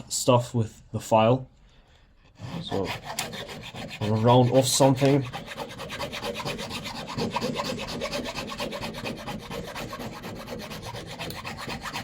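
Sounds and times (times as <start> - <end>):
file rasping on wood: 2.4 - 12.0.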